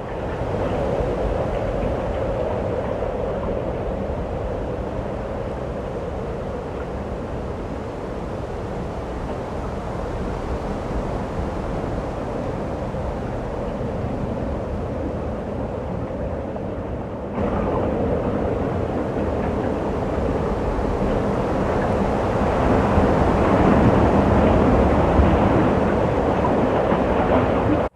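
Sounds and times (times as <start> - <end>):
rumbling wind of a snowstorm: 0.0 - 27.9.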